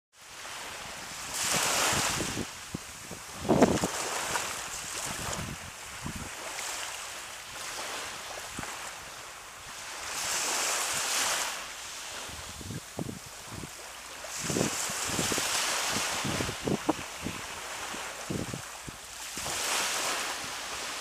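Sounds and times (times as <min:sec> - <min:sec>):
waves washing on beach: 0:00.2 - 0:21.0
wind rumbling on microphone: 0:00.4 - 0:21.0.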